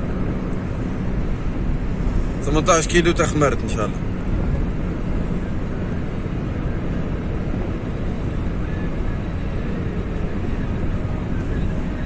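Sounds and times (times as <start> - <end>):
car interior road and engine noise: 0.0 - 12.0.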